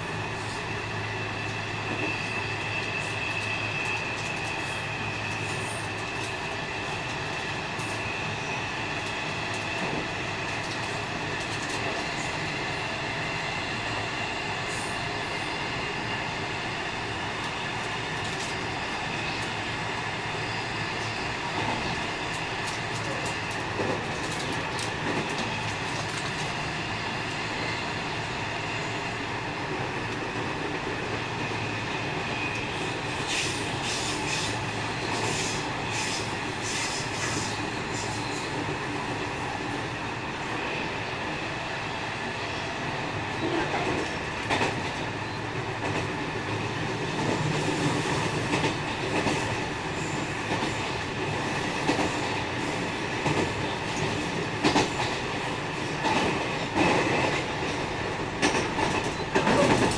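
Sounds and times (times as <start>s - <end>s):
electric train running: 0.0s - 59.9s.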